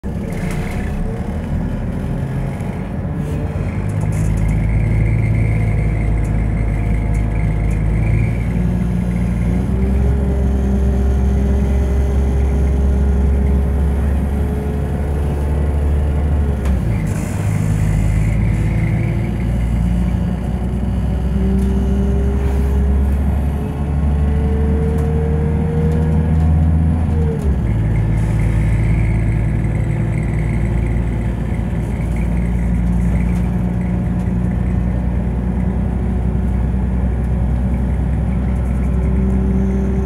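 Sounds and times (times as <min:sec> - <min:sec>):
train diesel engine accelerating: 0:00.0 - 0:40.0.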